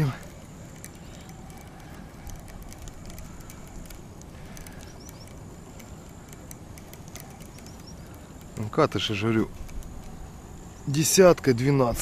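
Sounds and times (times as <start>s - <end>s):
faint clicks: 0.0s - 11.5s
cricket trilling: 0.0s - 12.0s
outdoor background noise: 0.0s - 12.0s.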